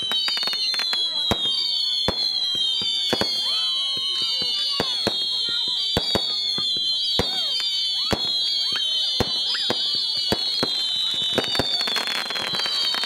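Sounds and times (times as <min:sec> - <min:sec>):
firework bangs: 0:00.0 - 0:13.0
firework crackling burst: 0:00.0 - 0:13.0
firework whistles falling in pitch: 0:00.0 - 0:13.0.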